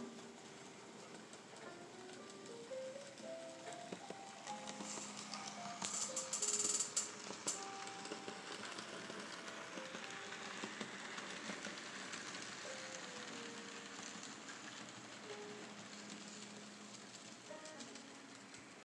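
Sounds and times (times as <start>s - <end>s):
faint background music: 0.0s - 18.8s
model train whirring: 0.0s - 18.8s.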